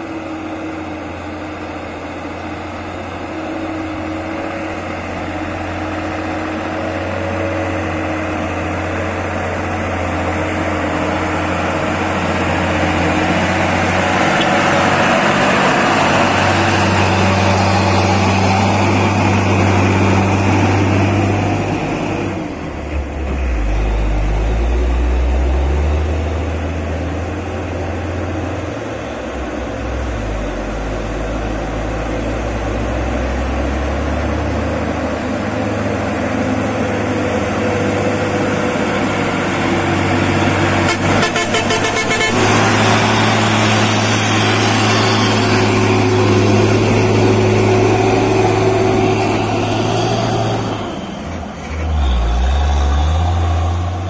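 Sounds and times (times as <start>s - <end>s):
diesel trucks driving past: 0.0s - 54.0s
tyres on gravel road: 0.0s - 54.0s.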